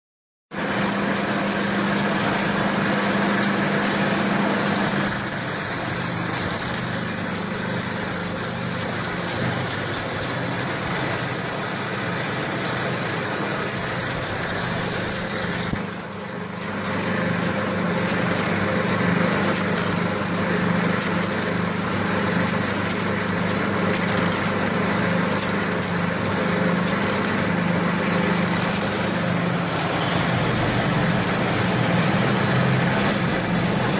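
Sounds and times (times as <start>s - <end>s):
machine humming: 0.5s - 33.9s
machine ticking: 0.8s - 33.9s.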